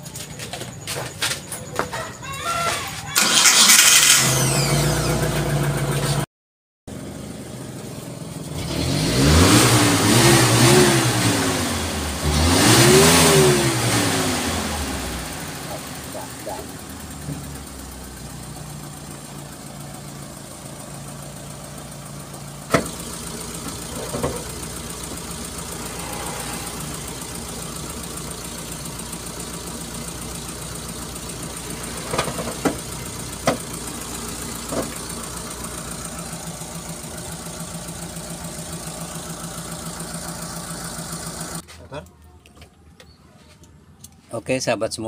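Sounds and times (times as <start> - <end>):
petrol engine idling: 0.0 - 6.2, 6.9 - 8.5, 14.7 - 44.2.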